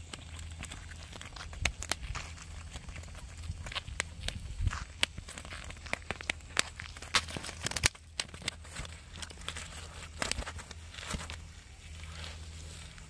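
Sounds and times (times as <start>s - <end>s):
feet shuffling: 0.0s - 7.8s, 8.4s - 13.0s
eel slapping on concrete: 0.0s - 11.4s
sharp clicks and crackles: 0.0s - 11.5s.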